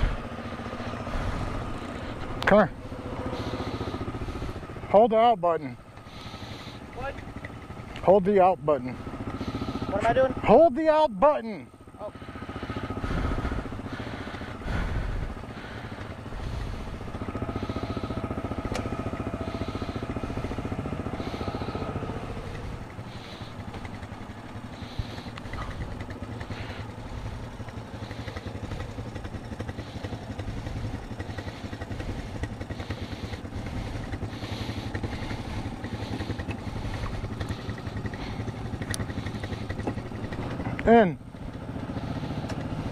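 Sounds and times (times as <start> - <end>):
atv engine idling: 0.0 - 42.9.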